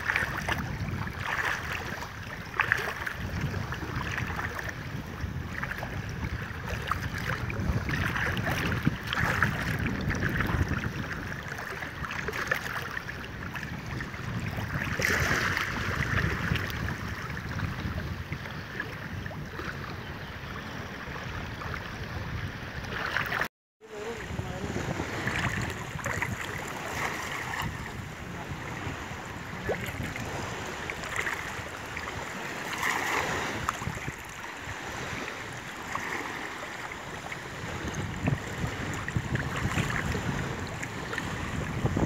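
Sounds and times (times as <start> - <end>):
wading through water: 0.0 - 42.0
wind buffeting microphone: 0.0 - 42.0.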